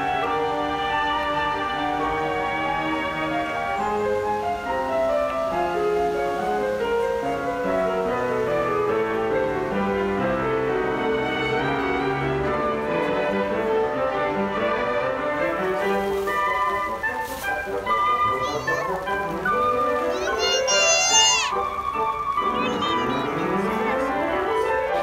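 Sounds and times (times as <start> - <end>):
slow instrumental music: 0.0 - 25.0.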